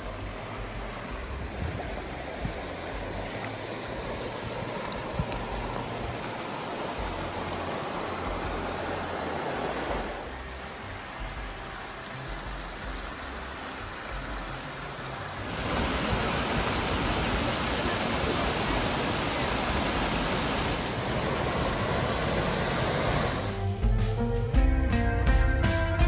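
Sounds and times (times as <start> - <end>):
waterfall rushing: 0.0 - 23.6.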